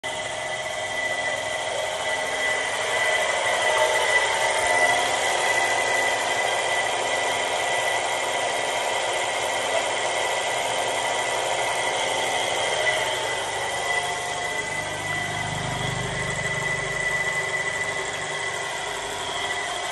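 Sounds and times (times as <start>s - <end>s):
high whine: 0.0s - 7.8s, 11.5s - 19.9s
electric pump motor running: 0.0s - 19.9s.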